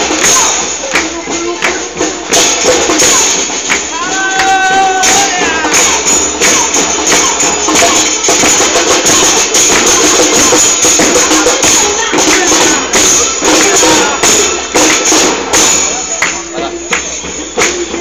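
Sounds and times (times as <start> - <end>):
bass drums with cymbals: 0.0 - 18.0
voices: 0.0 - 18.0.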